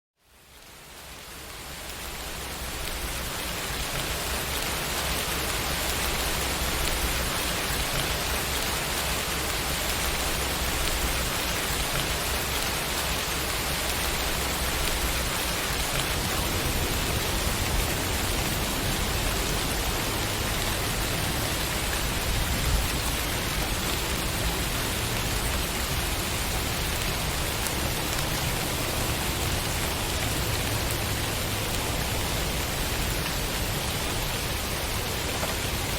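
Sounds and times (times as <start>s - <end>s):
rain falling: 0.2s - 35.9s.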